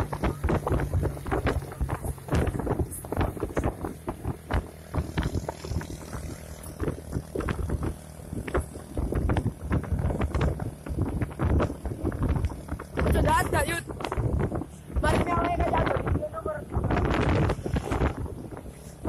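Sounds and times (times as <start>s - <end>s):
vehicle engine hum: 0.0s - 19.0s
wind on microphone: 0.0s - 19.0s.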